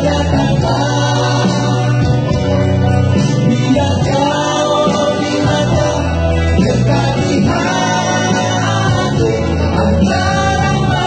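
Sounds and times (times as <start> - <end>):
electronic keyboard chords: 0.0 - 11.0
men singing together: 0.0 - 11.0.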